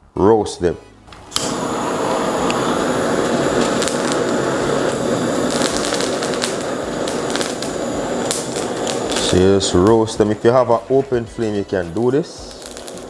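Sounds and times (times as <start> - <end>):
blowtorch flame hissing: 1.2 - 13.0.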